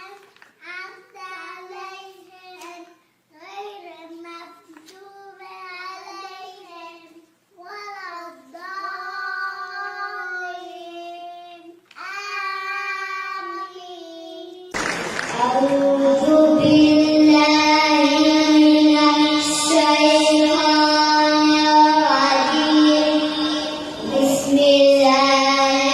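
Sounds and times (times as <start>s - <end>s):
child chanting recitation: 0.0s - 14.8s, 15.4s - 25.9s.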